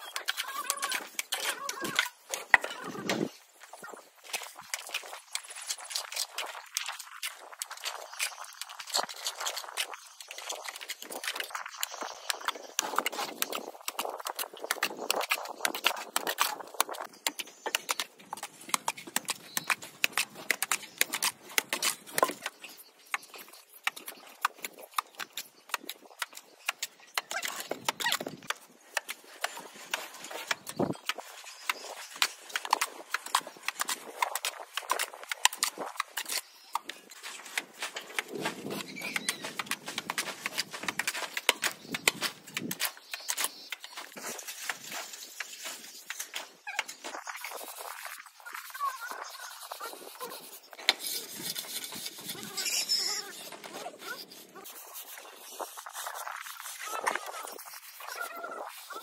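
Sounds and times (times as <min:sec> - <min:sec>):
trowel scraping and clicking: 0:00.0 - 0:03.3, 0:04.3 - 0:59.0.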